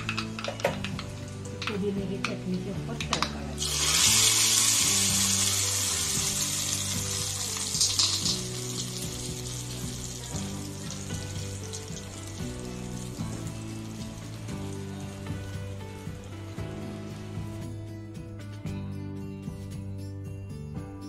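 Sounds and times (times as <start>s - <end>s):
hot oil sizzling: 0.0s - 2.4s, 3.2s - 17.6s
background music: 0.0s - 21.0s.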